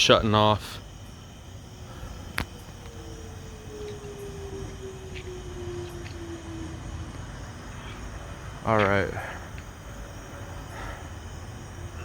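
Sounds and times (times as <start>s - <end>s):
outdoor background noise: 0.0s - 12.0s
siren winding down: 1.8s - 12.0s.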